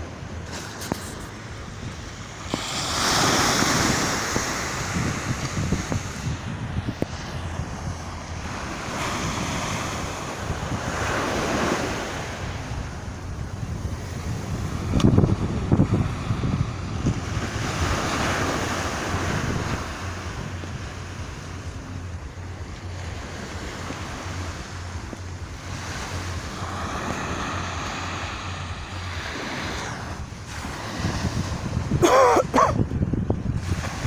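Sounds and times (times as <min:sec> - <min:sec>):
surf washing onto beach: 0:00.0 - 0:22.0, 0:23.2 - 0:32.0
wind buffeting microphone: 0:00.0 - 0:34.0.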